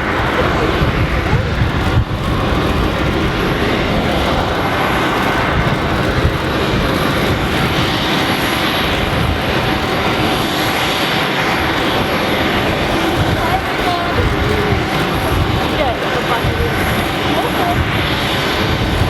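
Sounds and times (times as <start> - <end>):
high engine whine: 0.0 - 19.0
jet engines rushing: 0.0 - 19.0.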